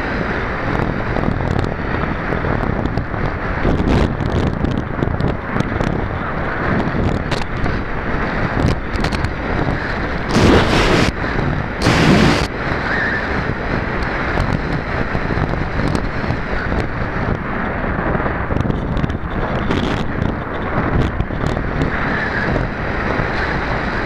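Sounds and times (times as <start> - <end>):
wind rushing over camera: 0.0 - 24.0.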